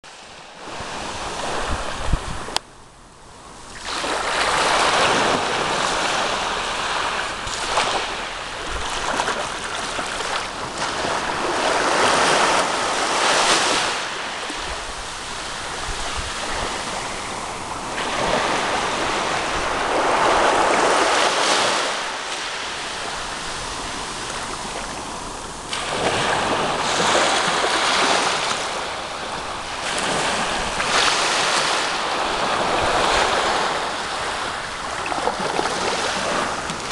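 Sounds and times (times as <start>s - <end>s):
sea waves breaking on shore: 0.1s - 2.6s, 3.3s - 36.9s.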